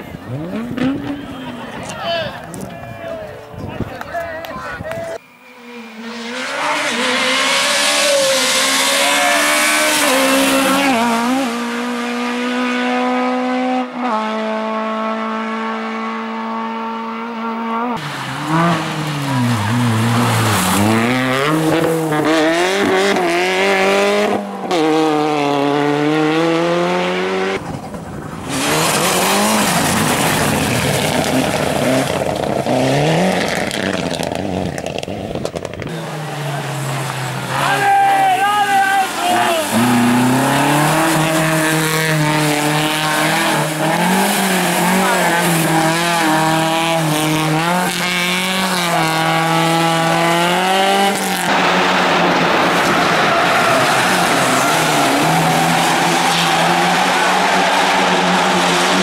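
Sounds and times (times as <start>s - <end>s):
rally car engines revving: 0.0s - 3.6s, 5.1s - 59.0s.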